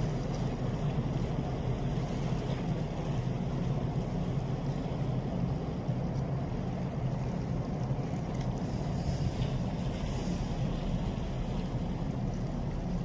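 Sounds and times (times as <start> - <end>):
ship engine rumble: 0.0 - 13.0.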